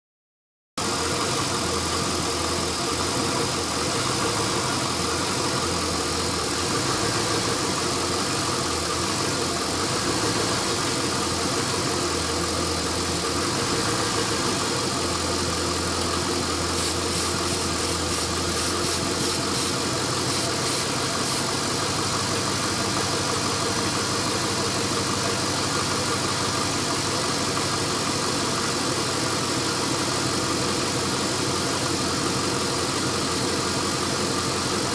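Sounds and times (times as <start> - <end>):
engine idling roughly: 0.8 - 34.9.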